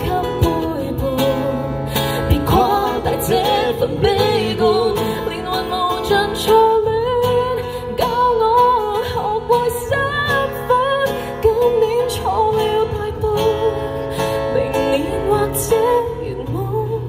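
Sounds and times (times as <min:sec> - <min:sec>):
strummed acoustic guitar: 0:00.0 - 0:17.0
woman singing pop song: 0:00.0 - 0:17.0.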